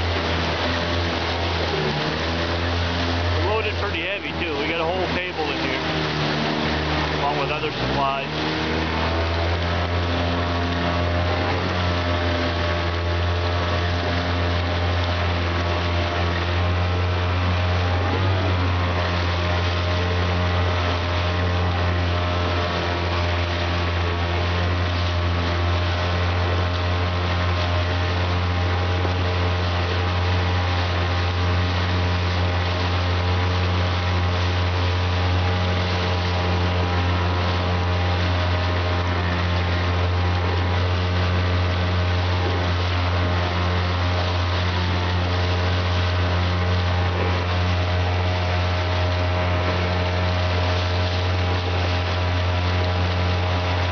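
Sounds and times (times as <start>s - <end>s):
outboard motor running: 0.0s - 53.9s
water splashing along hull: 0.0s - 53.9s.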